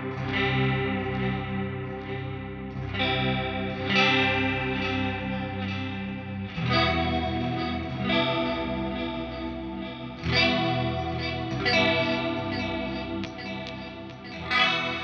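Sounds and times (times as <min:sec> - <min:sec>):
electric guitar chords strummed: 0:00.0 - 0:15.0.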